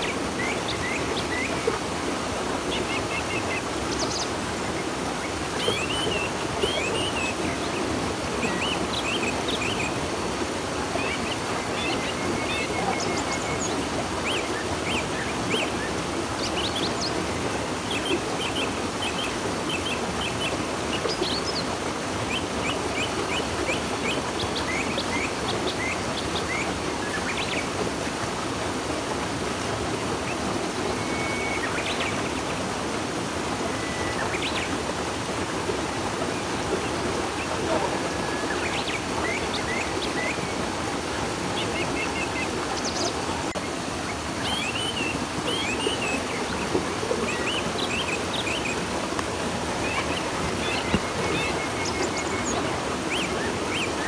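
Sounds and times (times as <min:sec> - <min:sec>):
birds chirping: 0:00.0 - 0:28.4, 0:30.0 - 0:54.0
river water rushing: 0:00.0 - 0:54.0.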